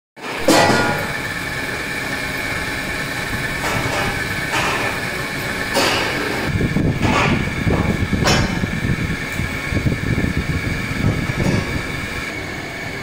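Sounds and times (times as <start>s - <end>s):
machinery humming with whine: 0.2s - 13.0s.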